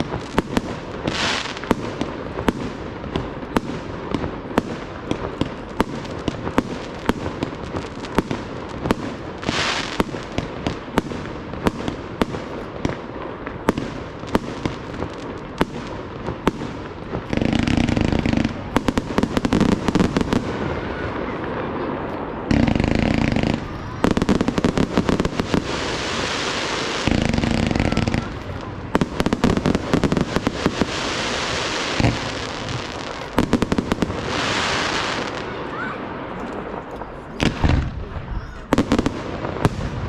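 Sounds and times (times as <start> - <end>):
firework hiss: 0.0 - 40.0
fireworks bangs: 0.0 - 40.0.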